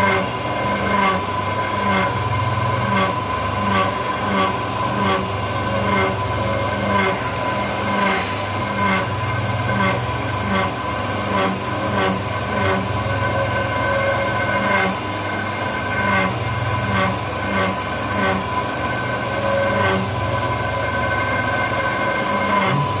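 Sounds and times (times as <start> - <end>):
milling machine hum and whine: 0.0 - 23.0.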